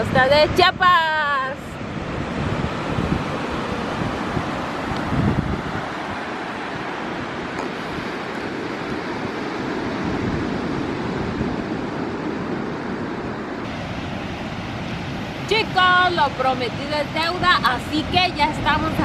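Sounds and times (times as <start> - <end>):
ocean surf on beach: 0.0 - 19.0
wind buffeting microphone: 0.0 - 19.0.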